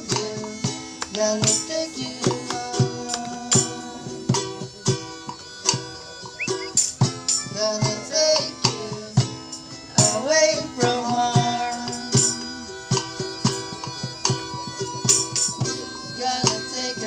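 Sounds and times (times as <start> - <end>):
hand drum beating: 0.0 - 17.0
harmonica bending notes: 0.0 - 17.0
strummed ukuleles: 0.0 - 17.0.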